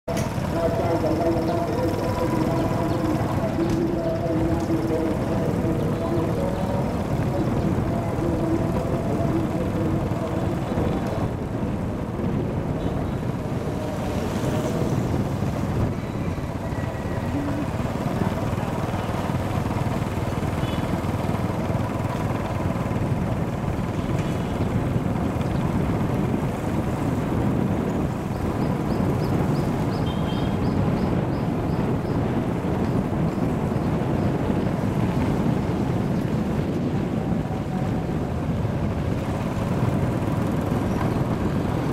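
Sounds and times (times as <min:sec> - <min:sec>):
motorbike engine running: 0:00.1 - 0:41.9
wind on microphone: 0:00.1 - 0:41.9.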